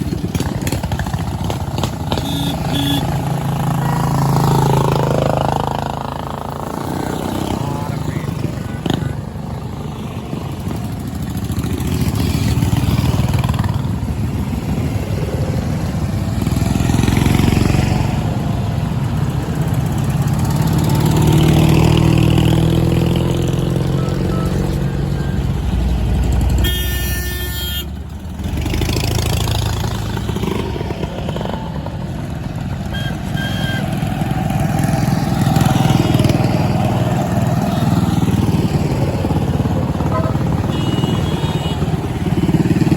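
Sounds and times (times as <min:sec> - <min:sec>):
motorcycles riding past: 0:00.0 - 0:42.9.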